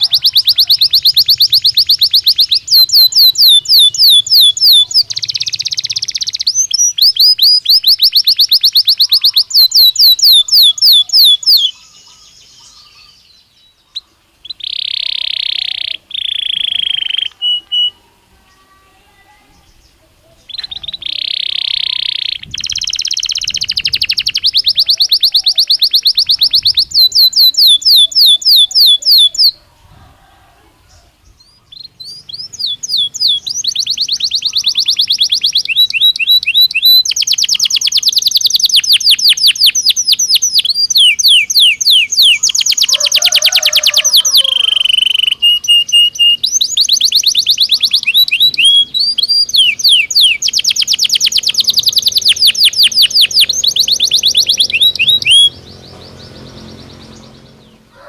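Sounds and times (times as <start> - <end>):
canary singing fast trills: 0.0 - 58.0.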